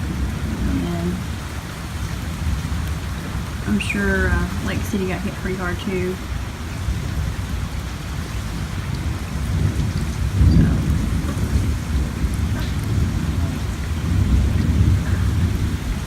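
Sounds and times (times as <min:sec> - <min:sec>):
rolling rumble of thunder: 0:00.0 - 0:16.0
steady rain: 0:00.0 - 0:16.0.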